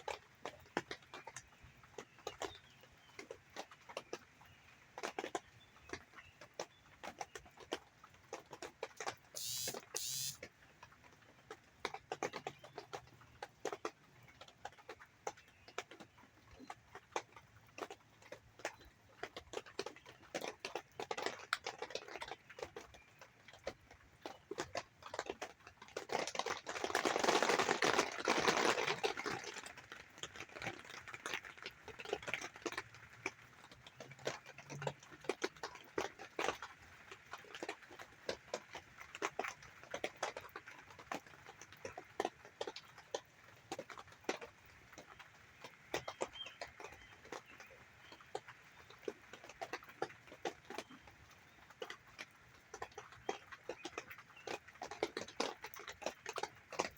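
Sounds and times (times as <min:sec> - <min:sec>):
rain ticking and splashing: 0:00.0 - 0:56.9.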